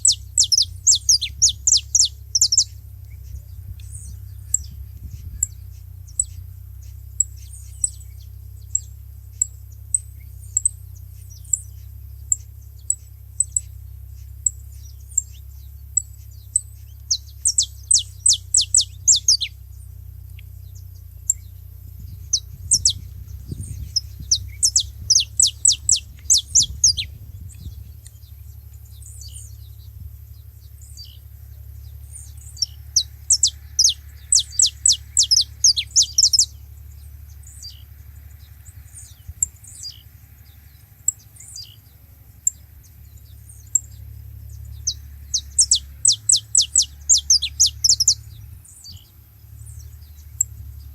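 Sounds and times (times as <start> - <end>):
finches calling: 0.0 - 50.9.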